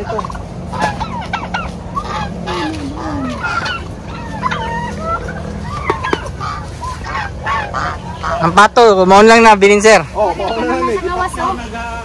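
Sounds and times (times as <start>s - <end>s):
poultry calling: 0.0s - 11.7s.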